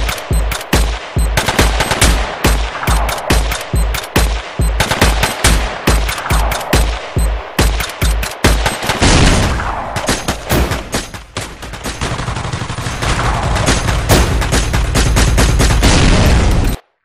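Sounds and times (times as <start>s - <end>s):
rapid gunfire: 0.0s - 16.8s.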